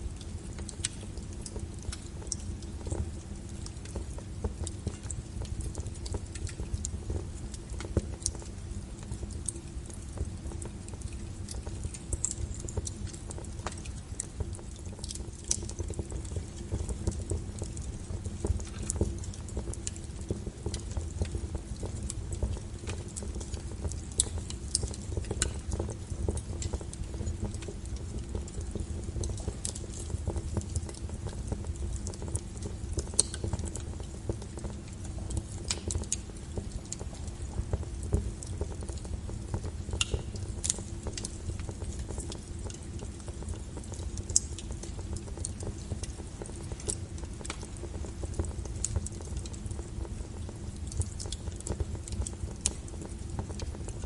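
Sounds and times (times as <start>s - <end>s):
fire crackles and pops: 0.0s - 54.0s
low rumble of flames: 0.0s - 54.0s.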